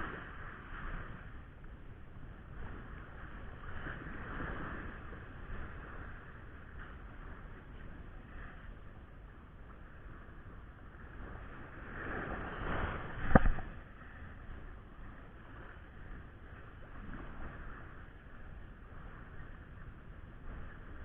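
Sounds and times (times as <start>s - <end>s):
wind: 0.0s - 21.0s
surf rushing: 2.2s - 21.0s.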